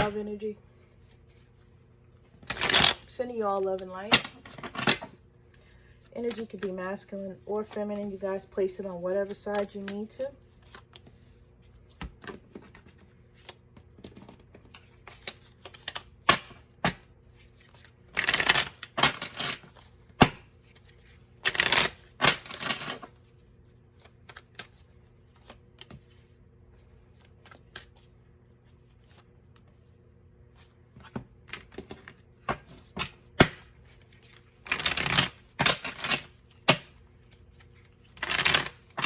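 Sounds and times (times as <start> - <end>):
cards being shuffled: 0.0 - 3.1, 3.7 - 8.3, 9.2 - 39.0.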